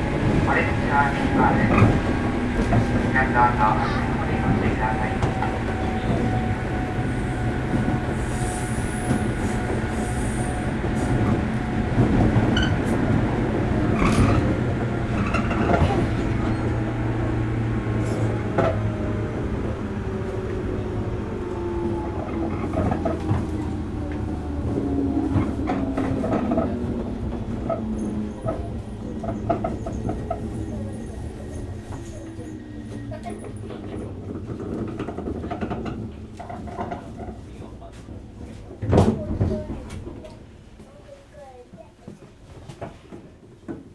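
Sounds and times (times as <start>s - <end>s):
train motors and wheels humming: 0.0s - 43.9s.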